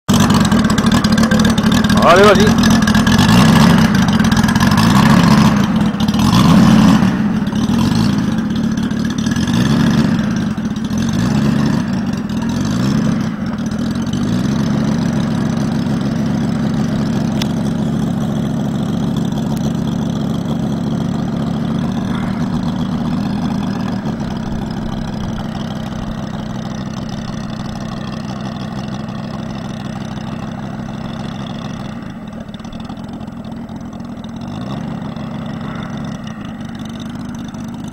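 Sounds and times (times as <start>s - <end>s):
model plane engine revving: 0.1s - 37.9s.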